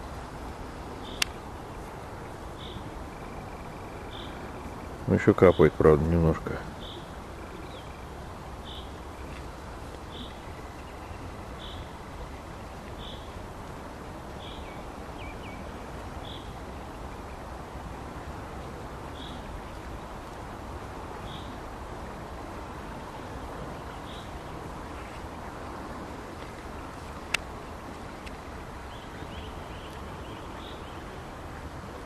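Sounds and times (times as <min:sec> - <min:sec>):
background hiss: 0:00.0 - 0:32.0.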